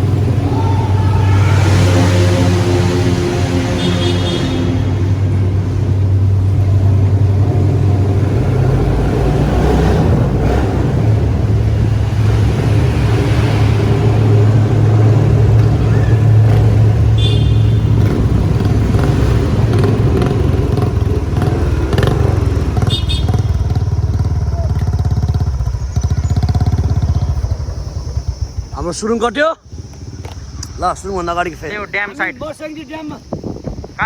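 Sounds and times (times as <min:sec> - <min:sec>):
vehicle engine running: 0:00.0 - 0:33.4.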